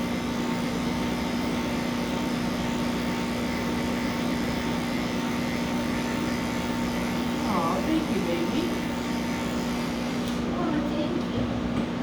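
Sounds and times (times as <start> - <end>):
electric pet clippers humming: 0.0 - 11.9.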